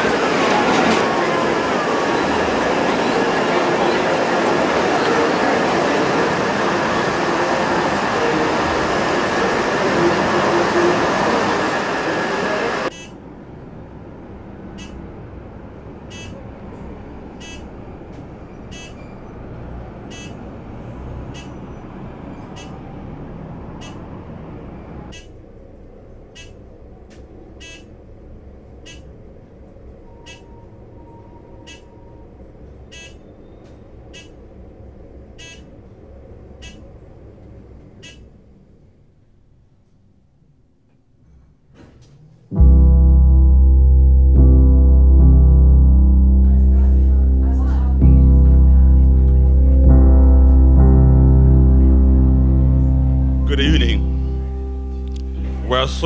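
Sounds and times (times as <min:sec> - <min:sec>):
elevator cab rising hum: 0:00.0 - 0:39.4, 0:41.1 - 0:56.0
city street traffic: 0:00.0 - 0:56.0.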